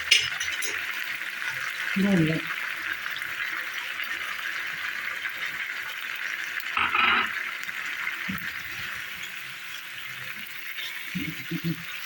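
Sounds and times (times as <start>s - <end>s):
meat sizzling in ghee: 0.0s - 12.0s.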